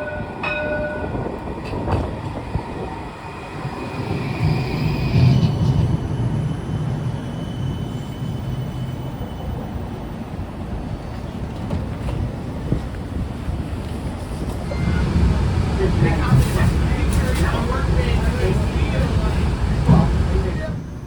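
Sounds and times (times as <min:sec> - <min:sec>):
streetcar rumble: 0:00.0 - 0:21.0.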